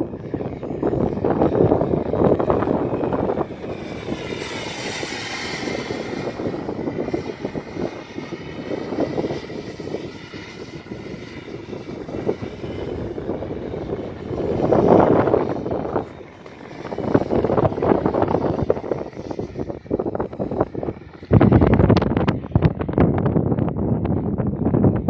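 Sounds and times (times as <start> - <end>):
jet aircraft whine: 0.0 - 25.0
low rumble: 0.0 - 25.0.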